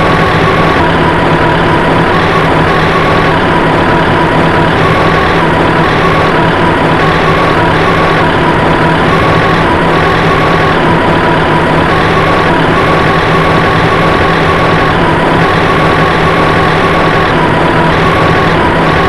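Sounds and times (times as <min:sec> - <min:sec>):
high tone alternating pitches: 0:00.0 - 0:19.0.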